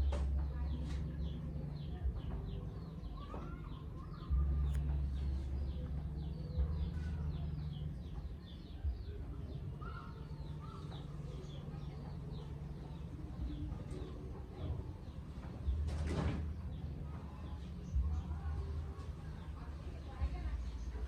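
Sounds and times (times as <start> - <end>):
birds chirping: 0.0 - 21.0
low steady rumble: 0.0 - 21.0.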